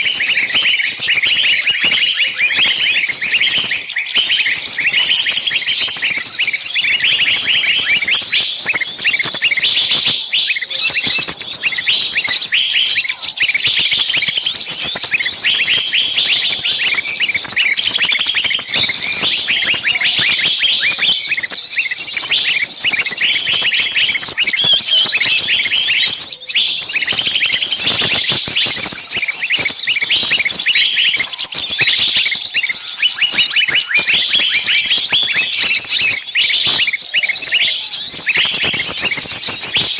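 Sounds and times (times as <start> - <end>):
songbirds chirping and shrieking: 0.0 - 39.9.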